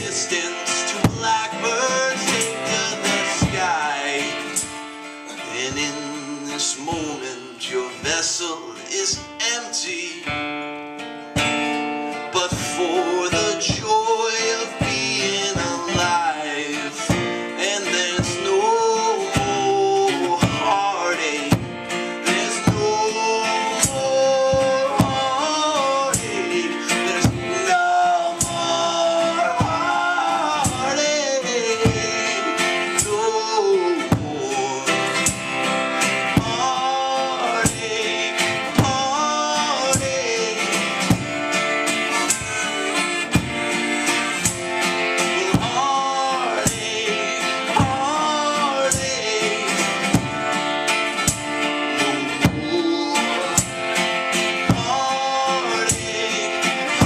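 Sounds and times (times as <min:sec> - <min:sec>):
steady band beat: 0:00.0 - 0:57.0.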